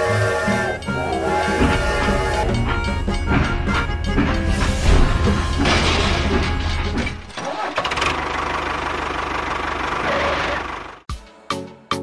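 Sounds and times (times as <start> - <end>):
engine running: 0.0 - 11.1.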